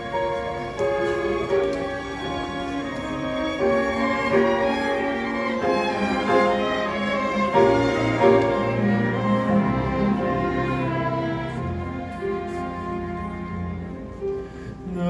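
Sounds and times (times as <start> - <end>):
lower bowed strings: 0.0 - 15.0
violin melody: 0.0 - 15.0.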